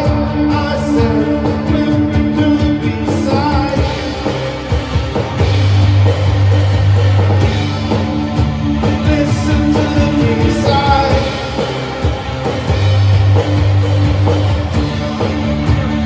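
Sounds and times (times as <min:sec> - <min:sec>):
bass guitar low notes: 0:00.0 - 0:16.0
drum kit: 0:00.0 - 0:16.0
echo-laden electric guitar: 0:00.0 - 0:16.0.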